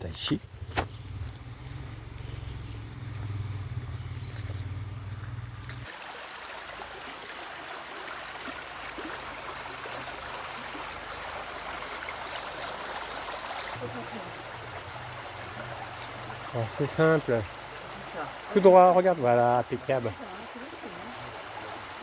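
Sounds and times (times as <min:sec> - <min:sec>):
stream flowing: 0:00.9 - 0:22.0.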